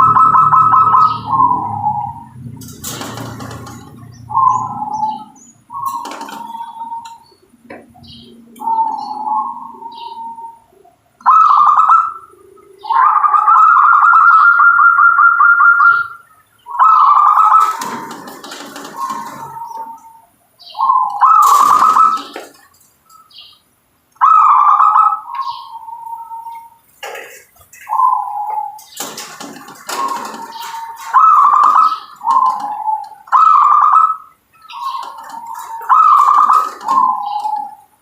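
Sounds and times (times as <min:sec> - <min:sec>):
dove cooing: 0:00.0 - 0:23.3, 0:24.2 - 0:38.0.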